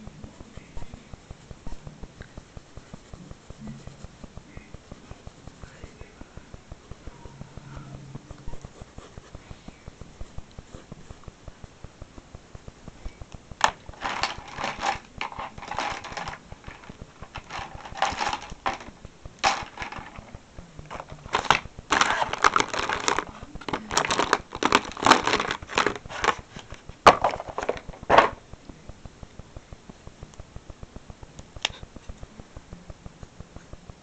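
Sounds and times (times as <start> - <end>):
rustling and scratching: 0.0 - 34.0.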